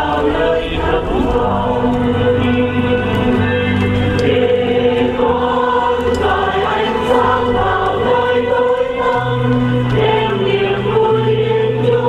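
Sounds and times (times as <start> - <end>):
choir singing slow song: 0.0 - 12.0
low accompaniment: 0.0 - 12.0.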